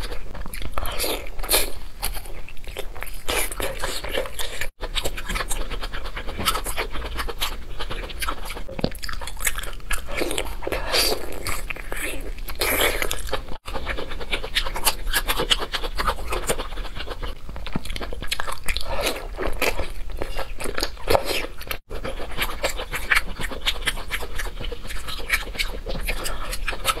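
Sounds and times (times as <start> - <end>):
wet chewing and smacking: 0.0 - 27.0.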